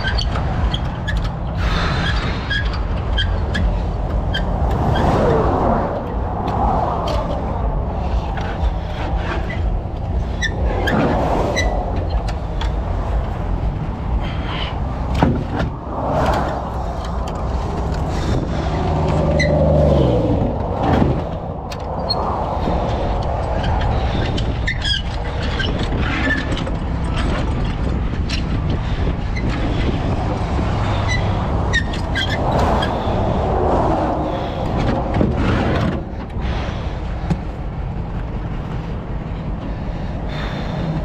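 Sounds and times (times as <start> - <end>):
road noise: 0.0 - 41.0.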